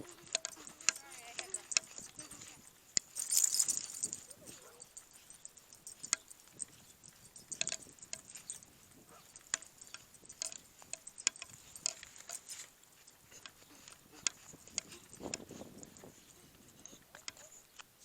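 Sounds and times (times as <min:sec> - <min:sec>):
footsteps: 0:00.0 - 0:16.2
dog collar tags jingling: 0:00.0 - 0:17.8.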